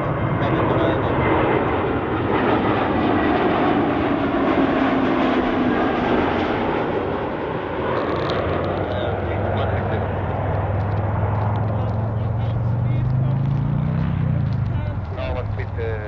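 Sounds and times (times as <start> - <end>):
jet airliner passing by: 0.0 - 16.0.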